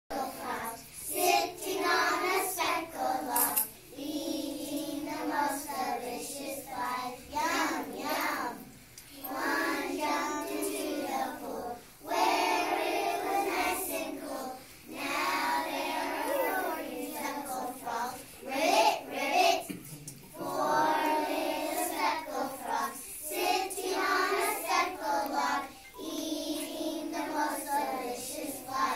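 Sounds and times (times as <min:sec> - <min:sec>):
children chanting in unison: 0:00.1 - 0:28.9.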